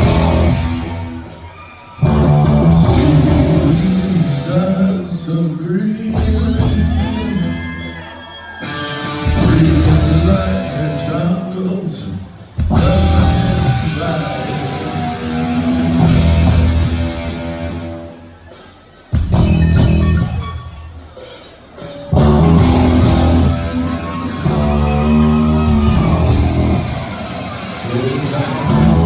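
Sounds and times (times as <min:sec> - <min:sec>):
distorted electric guitar: 0:00.0 - 0:18.3, 0:19.1 - 0:29.0
drums: 0:00.0 - 0:29.0.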